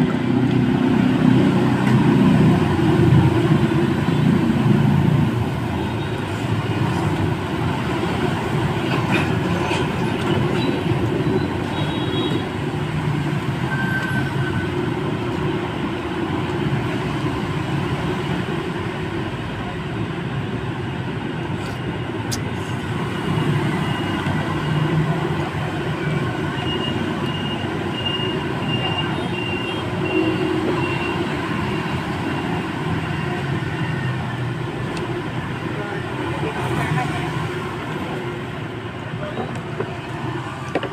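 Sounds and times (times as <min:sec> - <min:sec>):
hum of passing traffic: 0:00.0 - 0:40.9.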